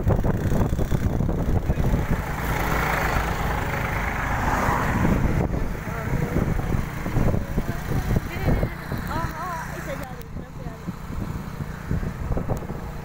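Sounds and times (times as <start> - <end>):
vehicle rumble on road: 0.0 - 13.0
wind buffeting microphone: 0.0 - 13.0.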